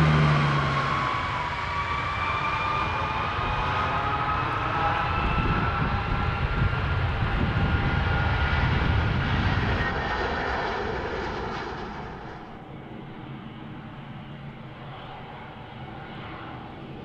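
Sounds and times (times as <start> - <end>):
aircraft engines at takeoff: 0.0 - 17.0.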